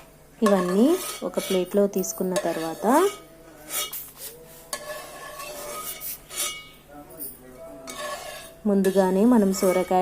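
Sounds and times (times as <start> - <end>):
faint background music: 0.0 - 10.0
utensils clinking against dishes: 0.4 - 10.0.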